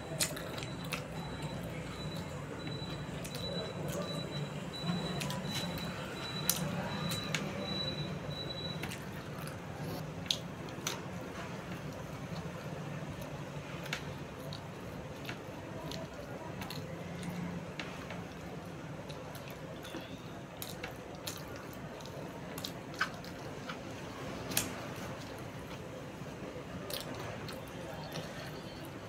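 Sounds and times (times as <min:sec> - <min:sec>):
wet chewing: 0:00.0 - 0:25.9, 0:26.8 - 0:29.0.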